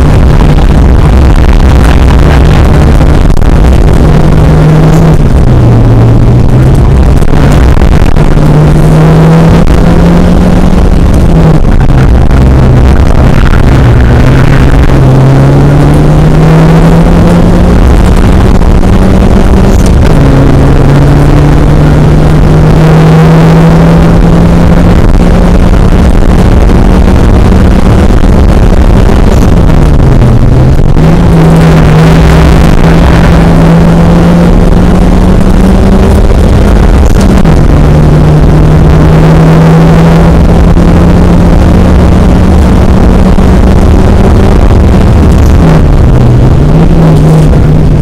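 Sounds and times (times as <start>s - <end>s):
car engine accelerating: 0.0s - 48.0s
tyre and road noise: 0.0s - 48.0s.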